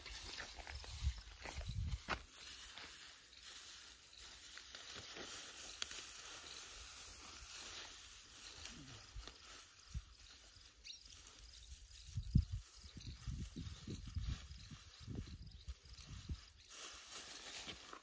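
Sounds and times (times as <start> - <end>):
stalks rustling and crackling: 0.0 - 18.0.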